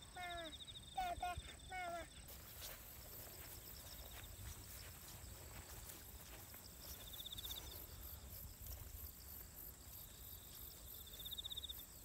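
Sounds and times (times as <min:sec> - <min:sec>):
insect trills: 0:00.0 - 0:12.0.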